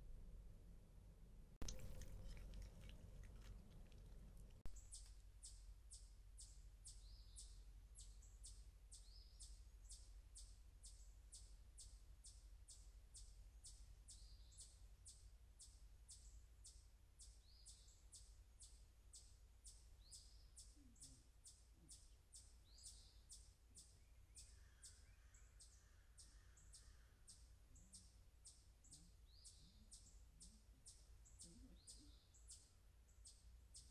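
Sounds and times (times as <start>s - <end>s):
low steady hum: 0.0s - 33.9s
bird chirping: 1.6s - 33.9s.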